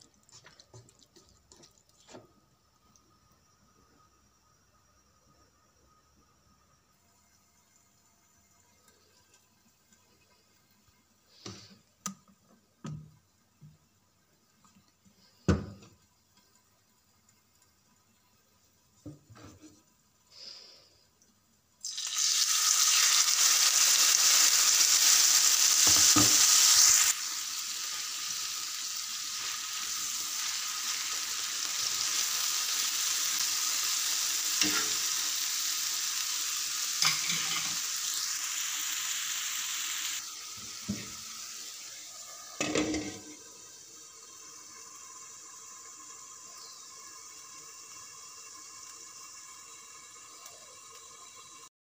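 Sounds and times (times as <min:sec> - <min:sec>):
chicken sizzling in hot oil: 0:00.0 - 0:51.7.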